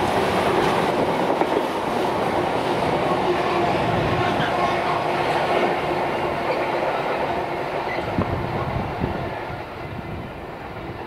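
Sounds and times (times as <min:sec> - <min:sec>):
train wheels clattering on rails: 0:00.0 - 0:09.2.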